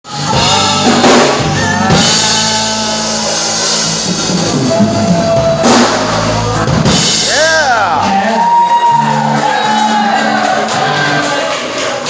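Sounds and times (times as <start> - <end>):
band playing loud music: 0.0 - 12.0
driving drum kit: 0.1 - 12.0.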